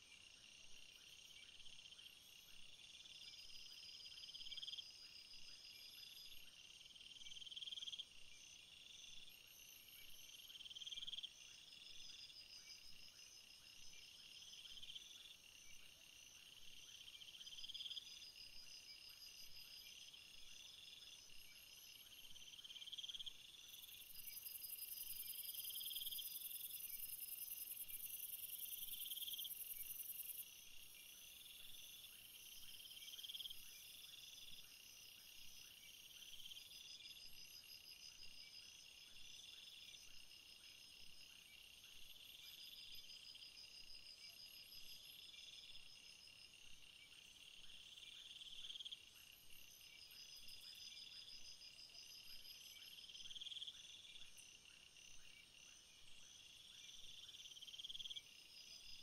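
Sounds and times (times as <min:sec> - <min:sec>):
high steady insect buzz: 0:00.0 - 0:59.0.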